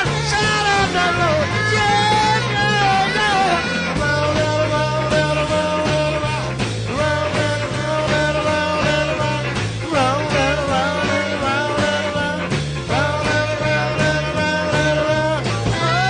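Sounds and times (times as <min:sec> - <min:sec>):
bass line: 0:00.0 - 0:16.0
blues band playing: 0:00.0 - 0:16.0
lead instrument bending notes: 0:00.0 - 0:16.0.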